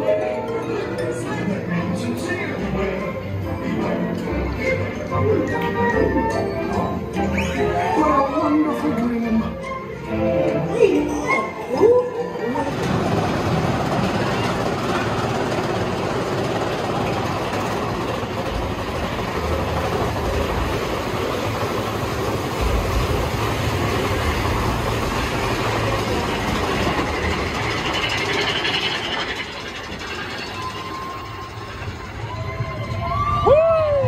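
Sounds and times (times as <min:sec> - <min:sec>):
roller coaster rumble and rattle: 0:00.0 - 0:34.0.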